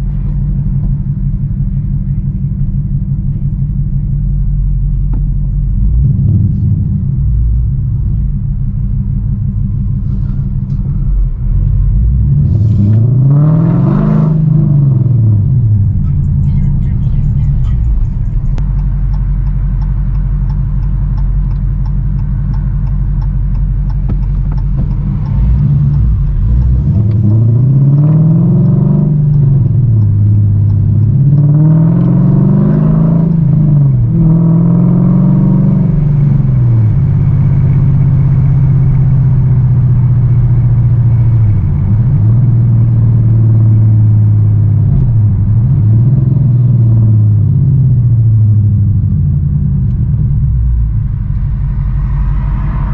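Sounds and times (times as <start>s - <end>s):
car engine idling and accelerating: 0.0s - 52.9s.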